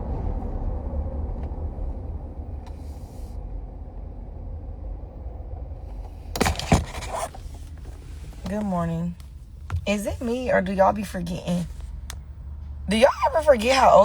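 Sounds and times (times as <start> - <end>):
car cabin rumble while driving: 0.0 - 14.0.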